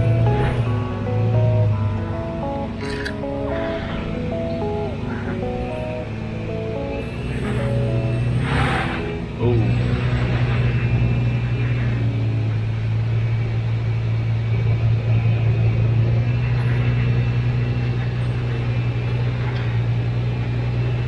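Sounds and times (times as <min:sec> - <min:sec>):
car engine under load: 0:00.0 - 0:21.0.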